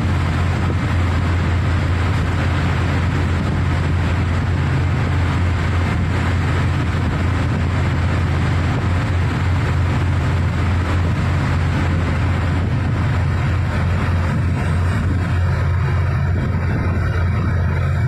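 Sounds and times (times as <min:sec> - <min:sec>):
diesel machinery droning: 0:00.0 - 0:18.0.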